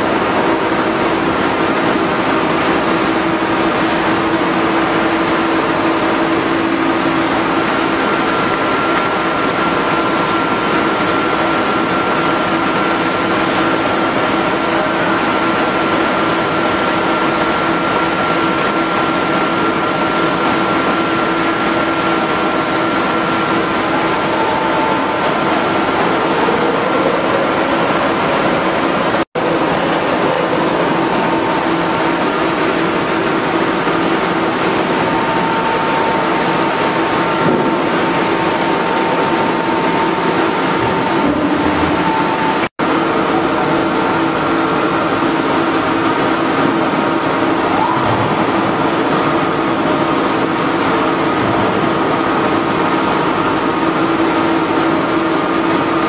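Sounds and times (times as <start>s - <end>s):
high steady whine: 0.0s - 56.0s.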